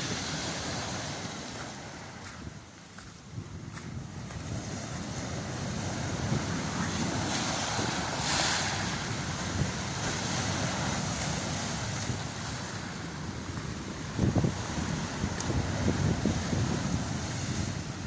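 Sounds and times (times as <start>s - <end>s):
storm surf breaking on shore: 0.0s - 18.0s
wind buffeting microphone: 0.0s - 18.0s.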